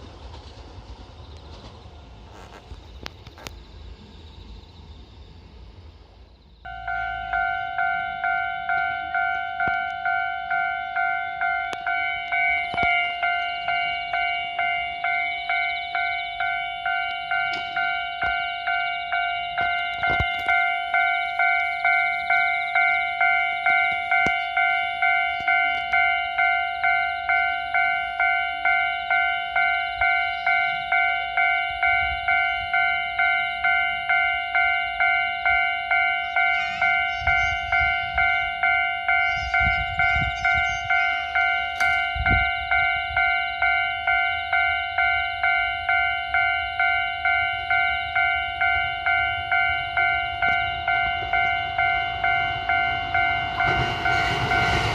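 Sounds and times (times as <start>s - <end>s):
level crossing warning bell ringing: 6.6s - 54.9s.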